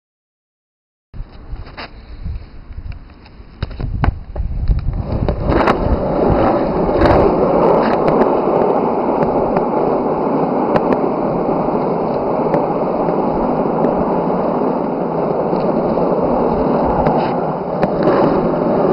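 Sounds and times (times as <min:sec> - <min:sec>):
skateboard wheels rolling on road: 0:01.2 - 0:18.9
skateboard clacks: 0:03.0 - 0:18.9.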